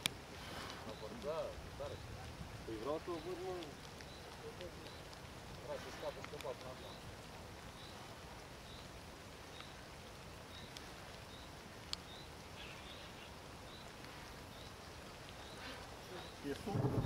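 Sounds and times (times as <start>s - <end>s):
faint steady rain hiss: 0.0s - 17.0s
raindrops ticking on camera: 0.0s - 17.0s.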